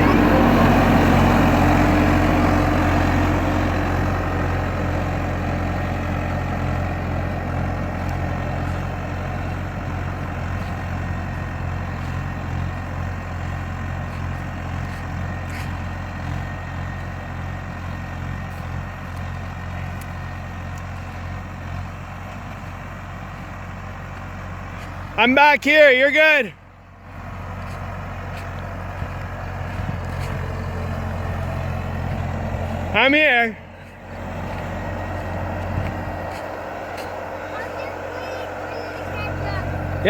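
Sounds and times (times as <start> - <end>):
skid steer engine running: 0.0 - 40.0.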